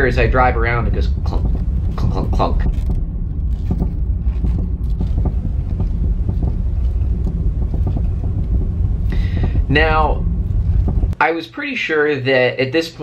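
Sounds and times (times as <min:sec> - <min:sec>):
engine and tyre rumble: 0:00.0 - 0:11.2
suspension clunks: 0:00.0 - 0:11.2.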